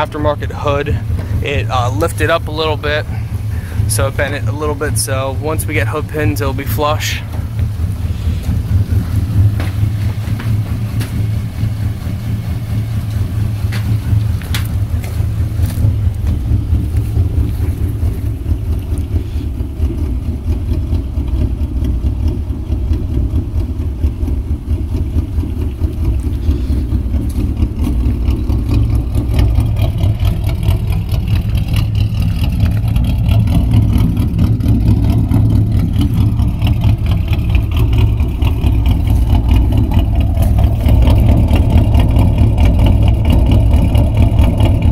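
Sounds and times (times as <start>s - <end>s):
deep car exhaust rumble: 0.0s - 44.9s.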